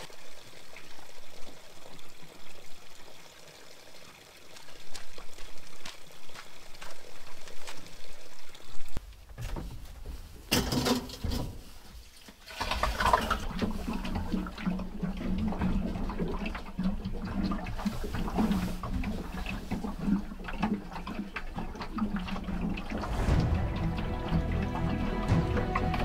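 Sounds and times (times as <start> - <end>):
water pouring and gurgling: 0.0 - 9.0, 10.2 - 26.0.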